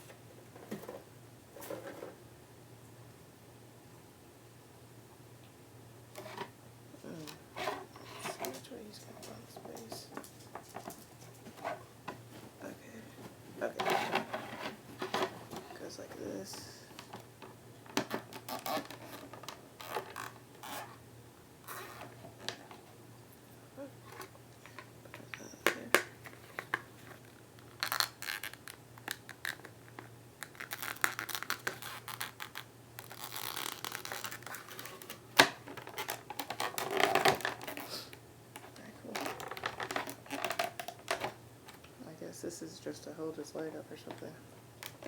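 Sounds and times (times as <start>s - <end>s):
packaging rustling and scraping: 0.0s - 2.2s, 6.2s - 21.0s, 21.6s - 22.9s, 24.0s - 41.8s.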